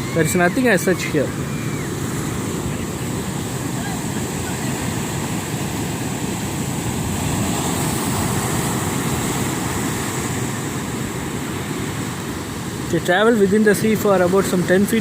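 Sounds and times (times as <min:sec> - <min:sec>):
sea surf on sandy shore: 0:00.0 - 0:15.0.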